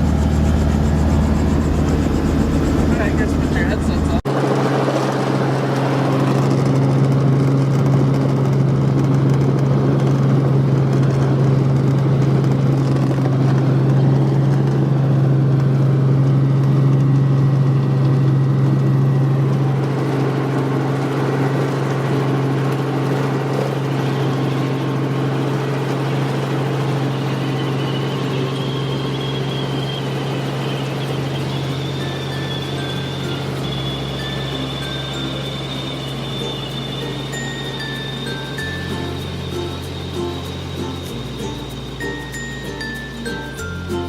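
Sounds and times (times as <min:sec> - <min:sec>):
helicopter engine and rotor droning: 0:00.0 - 0:44.0.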